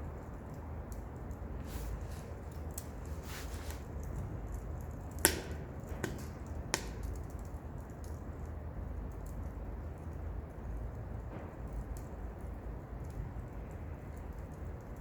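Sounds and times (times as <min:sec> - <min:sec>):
wood fire crackling in stove: 0:00.0 - 0:15.0
sharp pops of fire: 0:00.9 - 0:09.5, 0:11.2 - 0:15.0.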